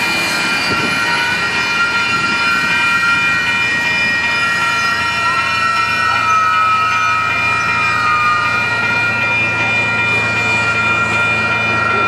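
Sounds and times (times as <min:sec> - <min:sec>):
locomotive rumbling: 0:00.0 - 0:12.0
steam locomotive whistle: 0:00.0 - 0:12.0.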